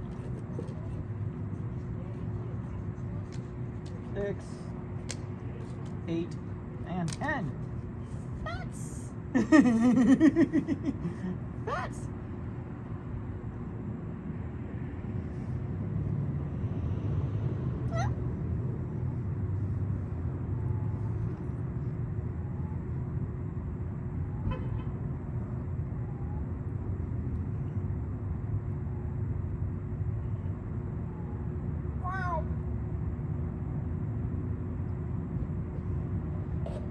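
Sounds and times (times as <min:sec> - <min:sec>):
vehicle traffic rumble: 0:00.0 - 0:36.9.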